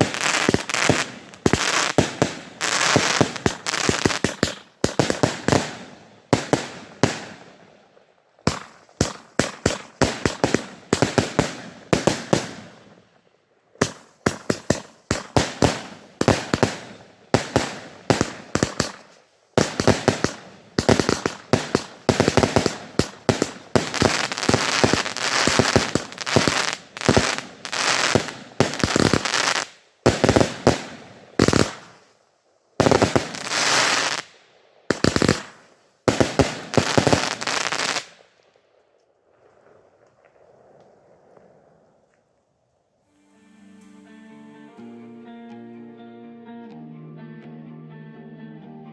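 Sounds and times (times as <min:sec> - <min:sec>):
fireworks crackling: 0:00.0 - 0:42.4.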